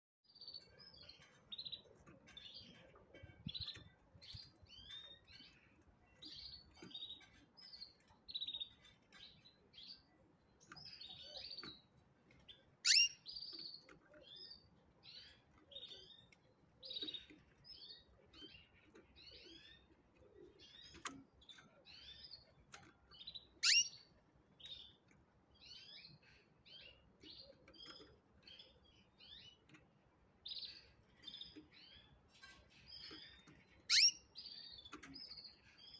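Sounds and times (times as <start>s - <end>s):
canaries chirping: 0.3s - 35.9s.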